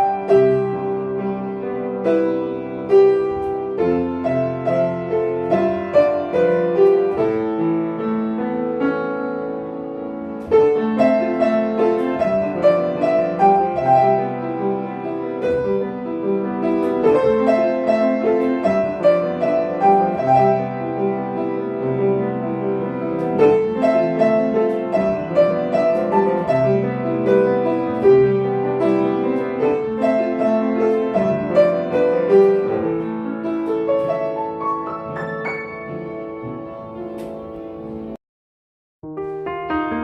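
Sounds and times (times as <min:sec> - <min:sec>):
piano piece: 0:00.0 - 0:38.2, 0:39.0 - 0:40.0.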